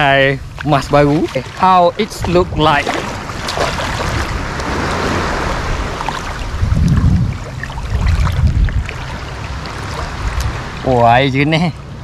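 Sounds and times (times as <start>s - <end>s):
low wave surges: 0.0s - 12.0s
sea water sloshing: 0.4s - 10.9s.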